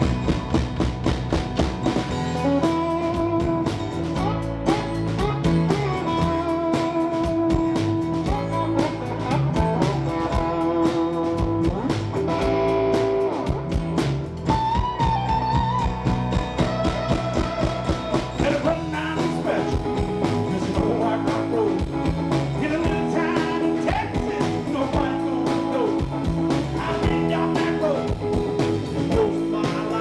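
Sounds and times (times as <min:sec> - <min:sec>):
drum beat: 0:00.0 - 0:30.0
electric guitar lead: 0:00.0 - 0:30.0.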